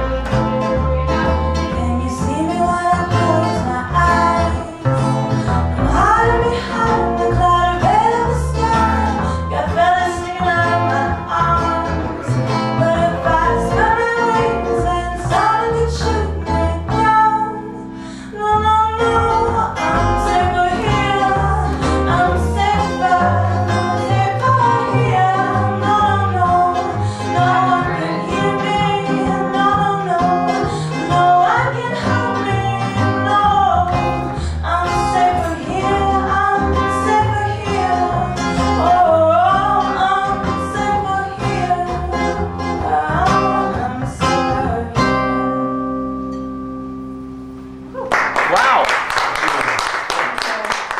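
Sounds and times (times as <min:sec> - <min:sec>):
person singing: 0:00.0 - 0:45.3
live band playing: 0:00.0 - 0:48.0.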